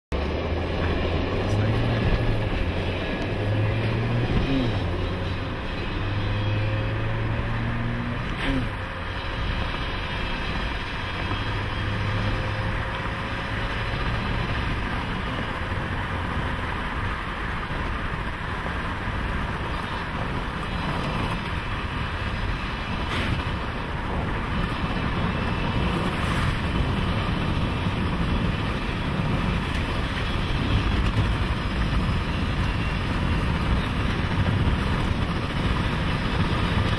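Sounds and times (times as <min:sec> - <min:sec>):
car engine: 0:00.1 - 0:36.9
wind noise: 0:00.1 - 0:36.9.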